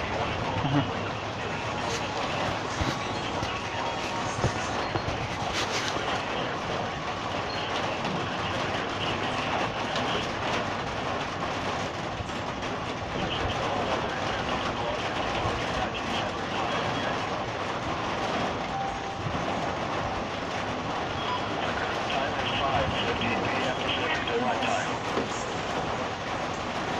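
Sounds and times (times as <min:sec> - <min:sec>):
hail and rain pelting: 0:00.0 - 0:26.9.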